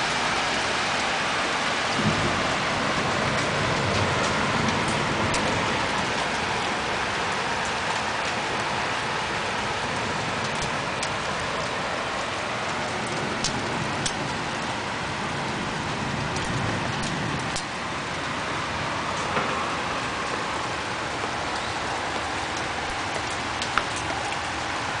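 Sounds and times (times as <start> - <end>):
heavy rain downpour: 0.0 - 25.0
hailstones ticking: 1.9 - 25.0.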